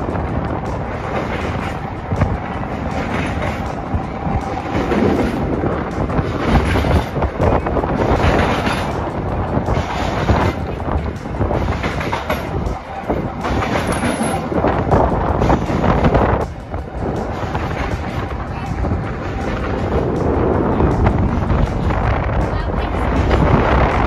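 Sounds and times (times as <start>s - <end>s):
steel wheels rumbling on rail: 0.0s - 24.0s.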